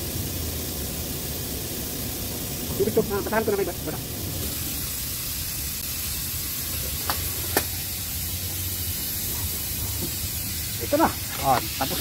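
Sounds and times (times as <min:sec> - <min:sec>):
heat gun blowing hot air: 0:00.0 - 0:12.0.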